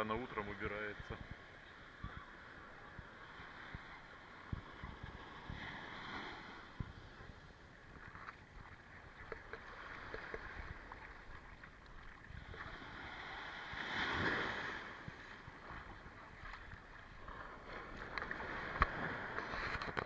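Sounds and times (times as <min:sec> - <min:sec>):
sea water lapping at shore: 0:00.0 - 0:20.0
wind rumble on microphone: 0:01.0 - 0:20.0.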